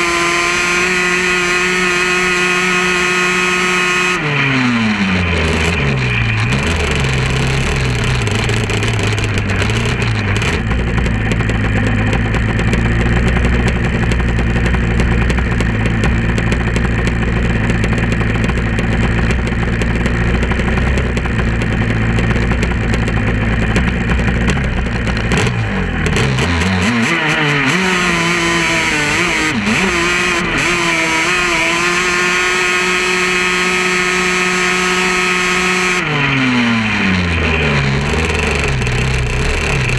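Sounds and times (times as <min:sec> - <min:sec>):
off-road vehicle engine running hard: 0:00.0 - 0:39.9.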